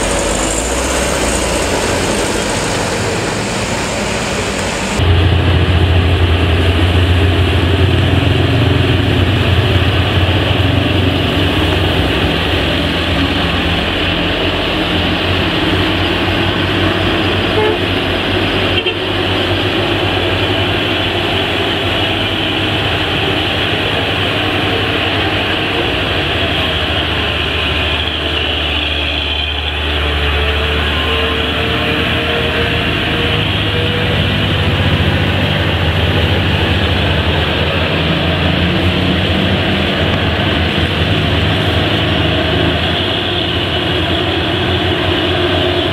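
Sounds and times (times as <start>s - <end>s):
passing traffic: 0.0s - 45.9s
truck diesel engine running: 0.0s - 45.9s.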